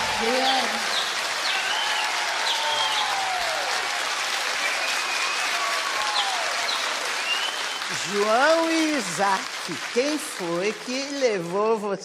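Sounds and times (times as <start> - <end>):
studio audience applauding: 0.0 - 12.0.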